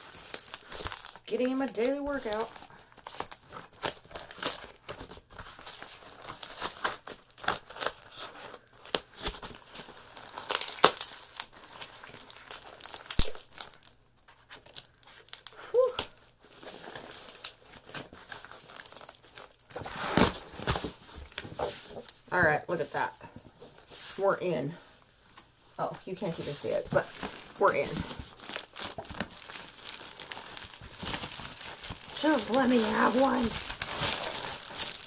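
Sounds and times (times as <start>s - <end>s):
packing tape crinkling and ripping: 0.0s - 22.3s, 25.2s - 35.0s.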